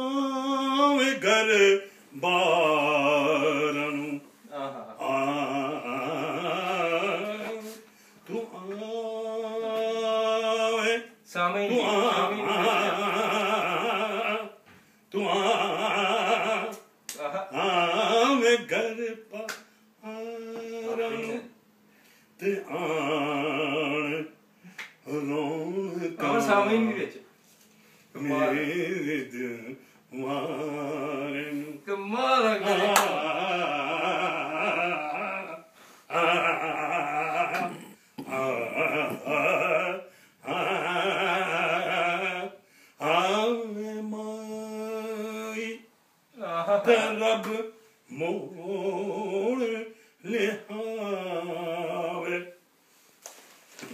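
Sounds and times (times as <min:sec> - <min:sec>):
man singing unaccompanied: 0:00.0 - 0:21.6, 0:22.4 - 0:24.4, 0:25.0 - 0:27.2, 0:28.1 - 0:52.7.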